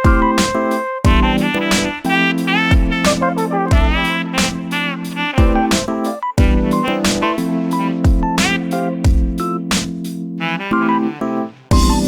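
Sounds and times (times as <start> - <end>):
upbeat jazzy instrumental music: 0.0 - 12.0.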